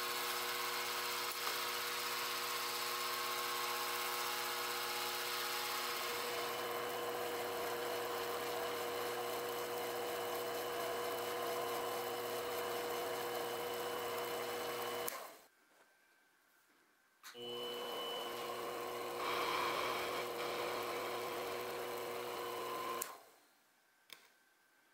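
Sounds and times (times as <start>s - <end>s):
lathe whining: 0.0s - 15.4s, 17.3s - 23.2s.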